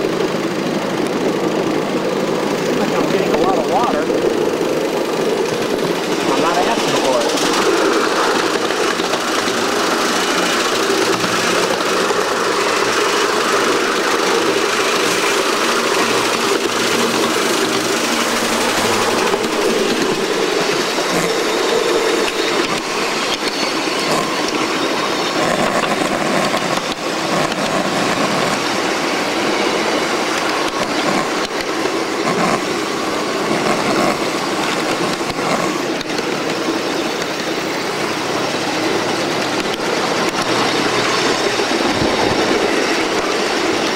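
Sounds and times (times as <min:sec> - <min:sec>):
small steam locomotive running: 0:00.0 - 0:43.9.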